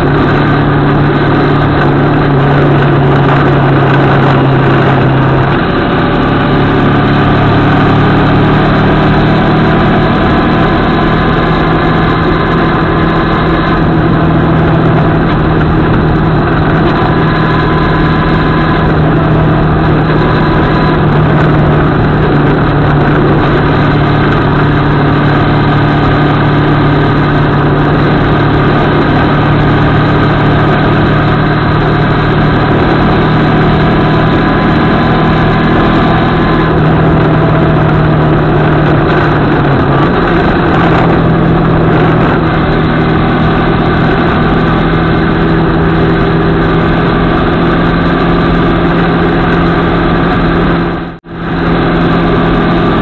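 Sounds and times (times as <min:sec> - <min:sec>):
motorcycle engine cruising: 0:00.0 - 0:53.0
rush of wind noise: 0:00.0 - 0:53.0.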